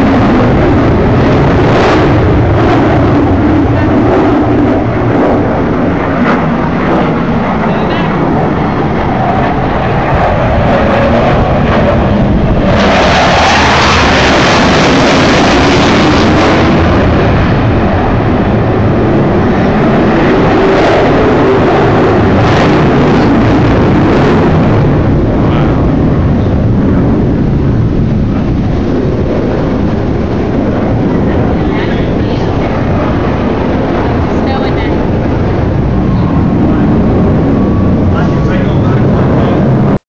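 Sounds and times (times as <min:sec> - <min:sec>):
jet roar passing low: 0:00.0 - 0:40.0.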